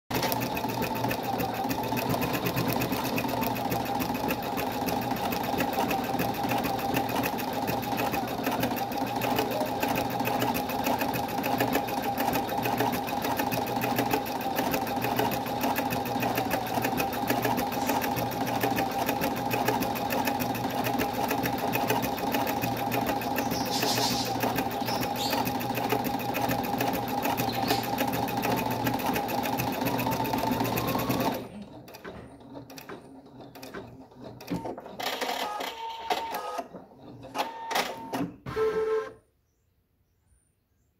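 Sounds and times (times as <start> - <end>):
embroidery machine stitching: 0.1 - 39.2.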